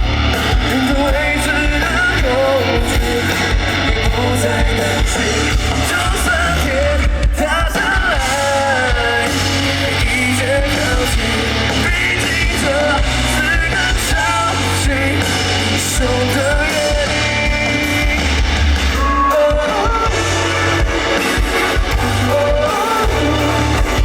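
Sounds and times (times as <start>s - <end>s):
live rock band playing: 0.0s - 24.0s
person singing: 0.3s - 24.0s.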